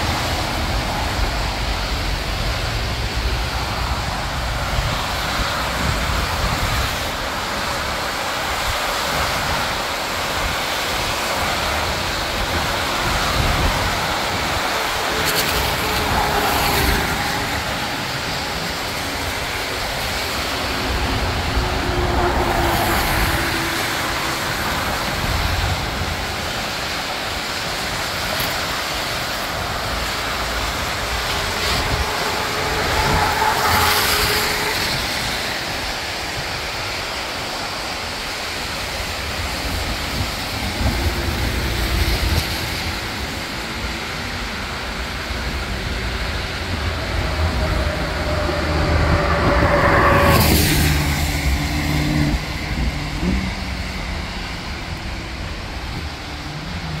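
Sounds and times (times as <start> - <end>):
steady traffic hum: 0.0 - 57.0
tyres hissing on wet road: 0.0 - 57.0.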